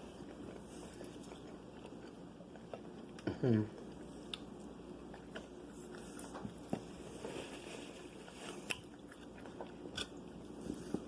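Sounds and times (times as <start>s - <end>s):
person chewing fried food: 0.0s - 11.0s.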